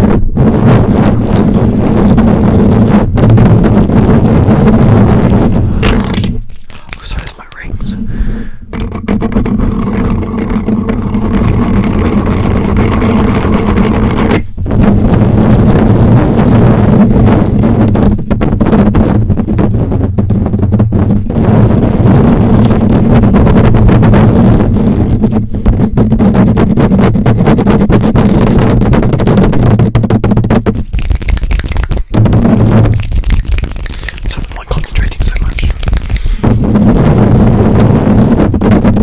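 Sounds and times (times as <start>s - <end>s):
fingers scratching microphone: 0.0s - 39.0s.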